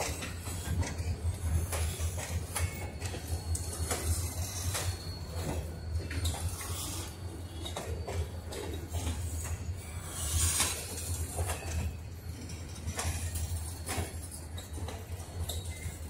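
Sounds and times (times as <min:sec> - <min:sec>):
freight cars rolling: 0:00.0 - 0:16.0.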